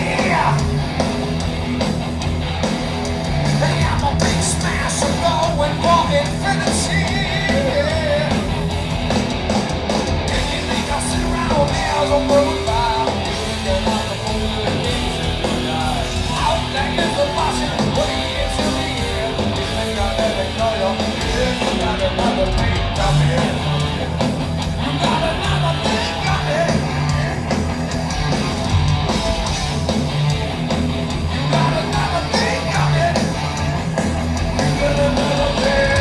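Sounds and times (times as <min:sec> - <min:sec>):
heavy metal band playing live: 0:00.0 - 0:36.0.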